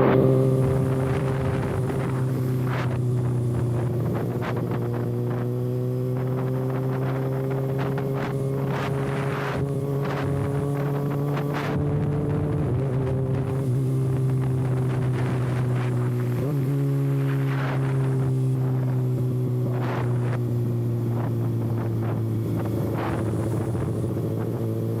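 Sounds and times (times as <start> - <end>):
motorcycle engine cruising: 0.0 - 25.0
wind buffeting microphone: 0.0 - 25.0.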